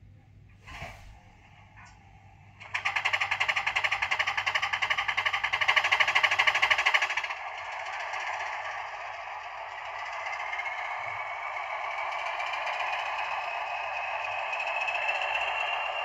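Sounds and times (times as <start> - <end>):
simulated diesel engine throbbing: 2.6 - 16.0.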